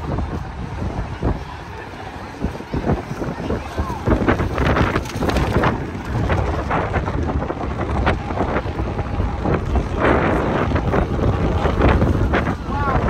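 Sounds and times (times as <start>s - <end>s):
wind buffeting microphone: 0.0s - 13.0s
rain pattering: 0.1s - 13.0s.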